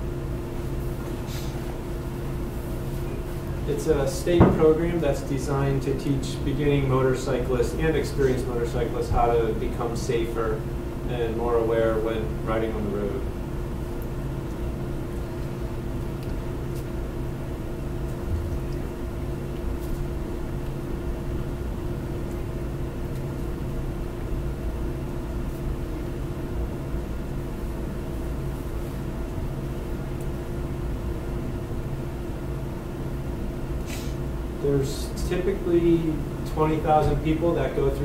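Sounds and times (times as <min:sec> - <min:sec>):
background hum and hiss: 0:00.0 - 0:38.0.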